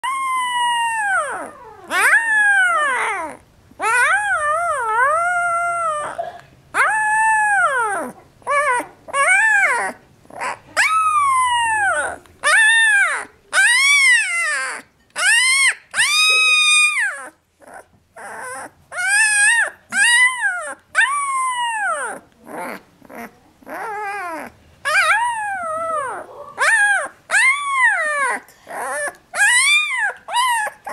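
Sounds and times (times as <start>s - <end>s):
puppy howling: 0.0s - 30.9s
puppy whimpering: 0.0s - 30.9s.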